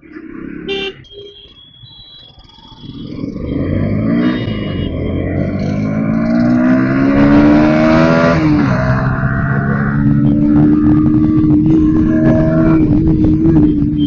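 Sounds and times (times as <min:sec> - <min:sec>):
motorcycle engine accelerating: 0:02.7 - 0:14.0.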